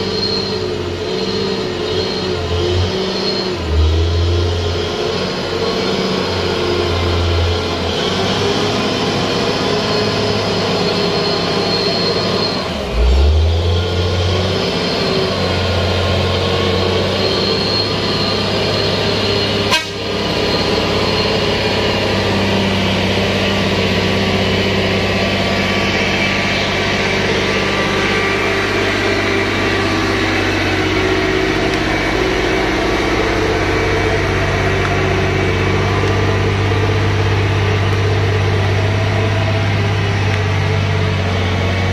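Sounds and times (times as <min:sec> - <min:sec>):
truck diesel engine driving past: 0:00.0 - 0:41.9.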